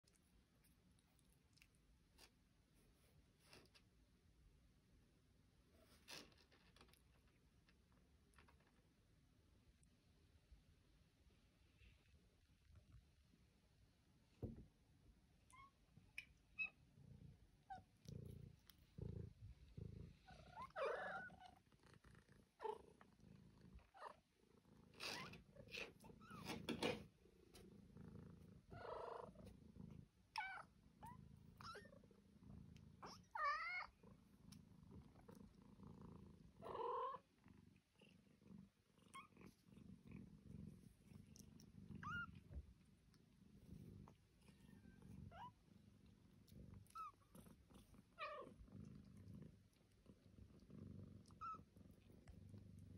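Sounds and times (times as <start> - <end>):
kittens purring: 0.0 - 52.9.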